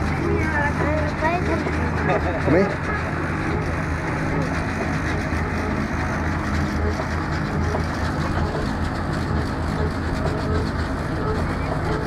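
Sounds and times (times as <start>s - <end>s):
low engine hum: 0.0s - 12.0s
wheels rumbling on road: 0.0s - 12.0s.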